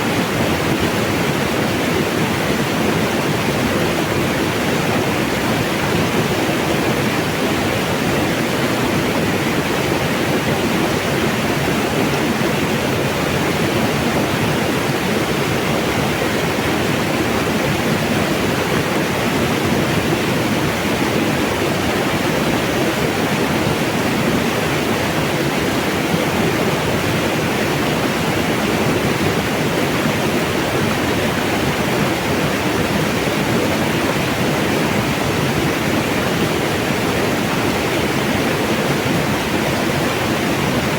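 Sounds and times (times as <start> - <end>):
mountain water rushing: 0.0 - 40.9.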